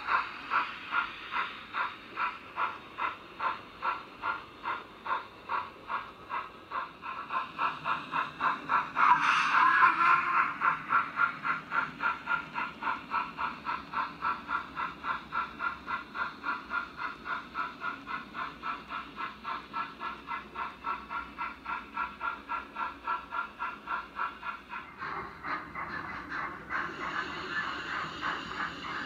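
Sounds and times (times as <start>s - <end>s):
model steam locomotive chuffing: 0.0s - 29.0s.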